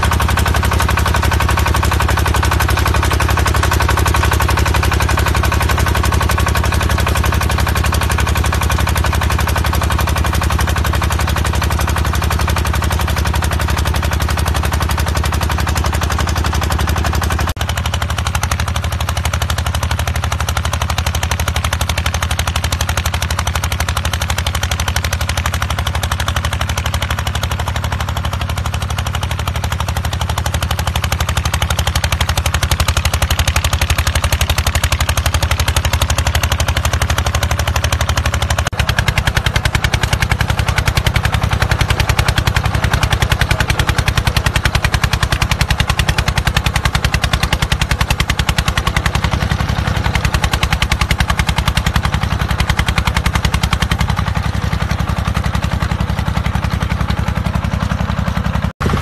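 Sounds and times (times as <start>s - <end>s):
rotary tiller engine chugging: 0.0s - 59.0s.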